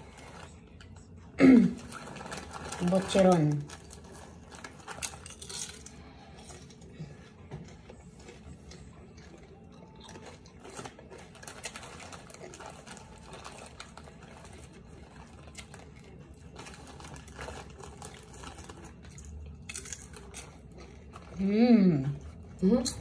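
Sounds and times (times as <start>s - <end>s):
crisp crunching chewing: 0.0s - 21.4s
plastic snack bag rustling: 0.0s - 23.0s.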